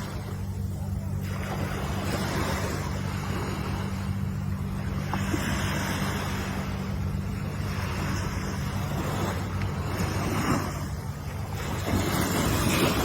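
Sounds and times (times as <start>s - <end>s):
constant low rumble: 0.0s - 13.0s
ocean surf washing ashore: 0.0s - 13.0s.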